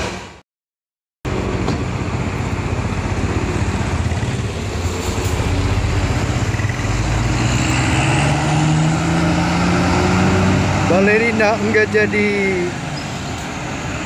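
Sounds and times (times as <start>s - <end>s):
bus diesel engine passing: 1.3s - 14.0s.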